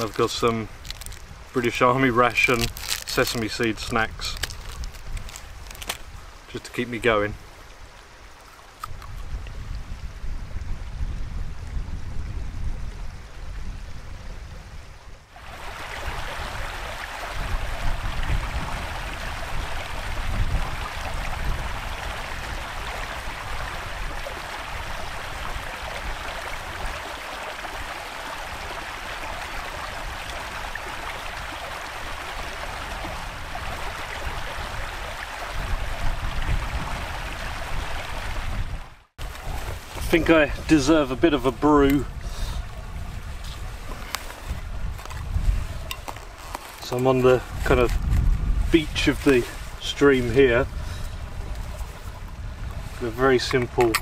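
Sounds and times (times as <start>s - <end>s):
stream running over stones: 0.0s - 14.2s, 15.3s - 54.0s
wind buffeting microphone: 8.8s - 54.0s.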